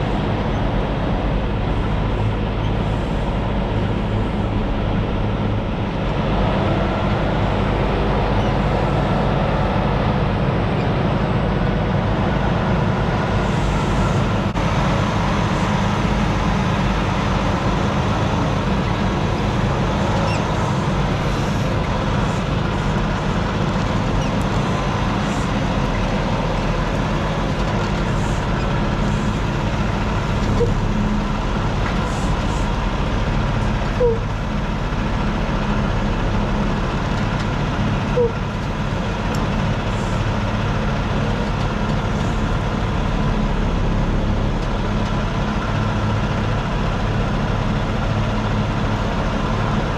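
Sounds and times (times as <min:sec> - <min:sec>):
truck diesel engine running: 0:00.0 - 0:49.9.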